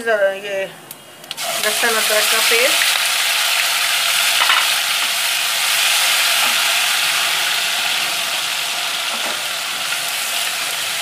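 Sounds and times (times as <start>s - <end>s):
paste sizzling in hot oil: 1.4s - 11.0s.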